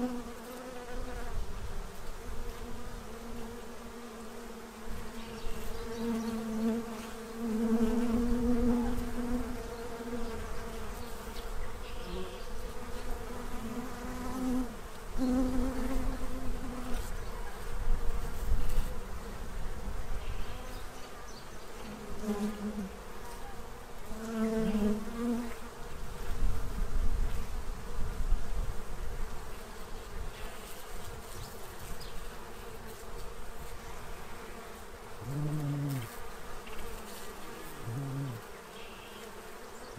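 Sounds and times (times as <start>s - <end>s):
bees buzzing: 0.0s - 26.5s, 29.4s - 39.9s
single bee flying past: 0.0s - 39.9s.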